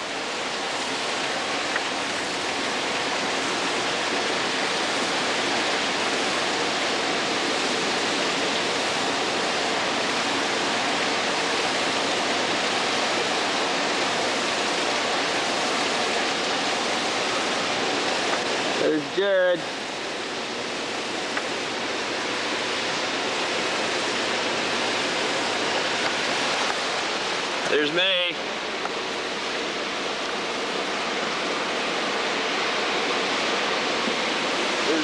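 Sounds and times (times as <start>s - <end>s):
water rushing through lock gates: 0.0s - 35.0s.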